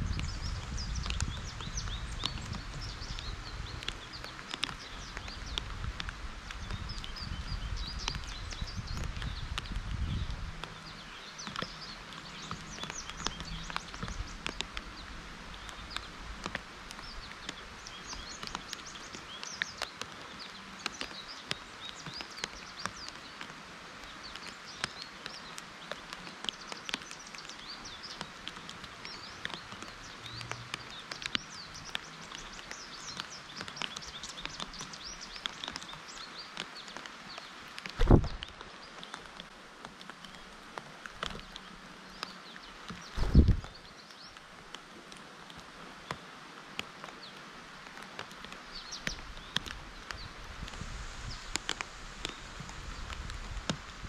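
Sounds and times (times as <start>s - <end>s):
birds chirping: 0.0s - 23.5s, 24.1s - 45.0s, 46.0s - 54.0s
rain on leaves: 0.0s - 54.0s
water drips ticking: 0.0s - 54.0s.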